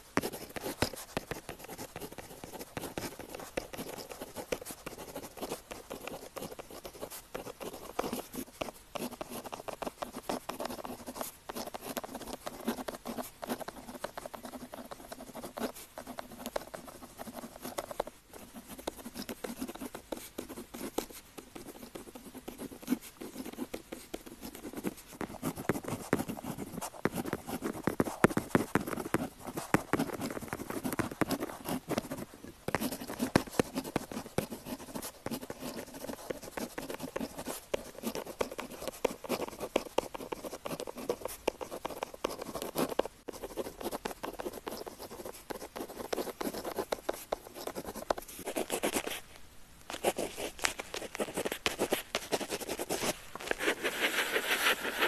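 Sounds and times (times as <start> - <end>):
pen scratching on paper: 0.2 - 49.2, 49.9 - 55.0.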